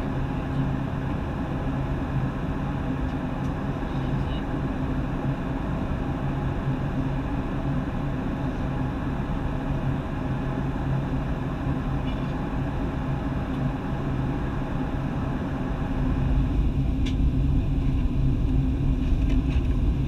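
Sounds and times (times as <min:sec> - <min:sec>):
jet engines droning: 0:00.0 - 0:20.0
low hum: 0:00.0 - 0:20.0.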